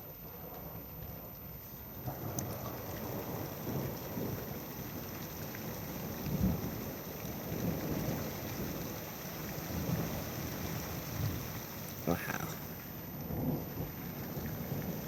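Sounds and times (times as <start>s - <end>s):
steady rain: 0.0s - 15.0s
thunder rumbling: 2.0s - 15.0s.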